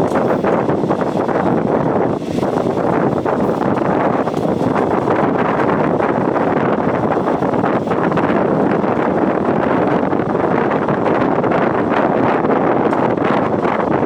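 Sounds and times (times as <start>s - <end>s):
train running noise: 0.0s - 14.0s
wind buffeting microphone: 0.0s - 14.0s.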